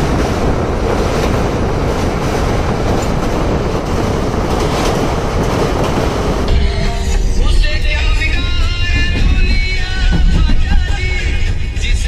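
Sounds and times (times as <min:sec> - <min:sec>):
train rumbling over a bridge: 0:00.0 - 0:12.0
wheels clattering on rails: 0:00.0 - 0:12.0.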